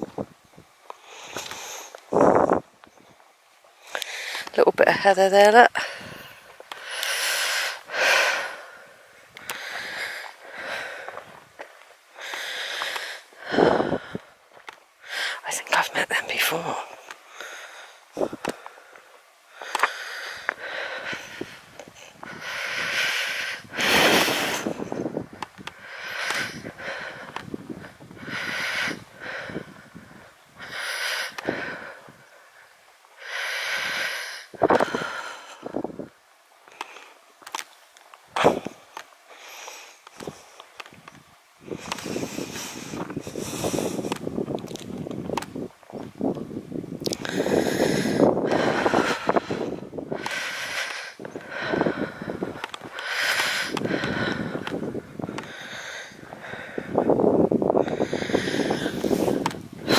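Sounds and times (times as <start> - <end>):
footsteps on stony path: 0.0 - 7.2, 8.4 - 15.0, 15.6 - 28.3, 36.7 - 47.6, 48.2 - 59.9
person breathing heavily: 1.0 - 2.6, 3.8 - 4.6, 5.6 - 37.6, 38.3 - 40.8, 41.6 - 45.0, 47.0 - 59.9.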